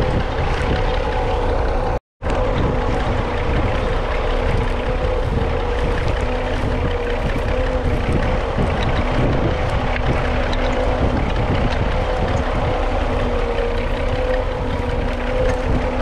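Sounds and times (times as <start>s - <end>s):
tractor diesel engine running: 0.0s - 16.0s
wind buffeting microphone: 0.0s - 16.0s.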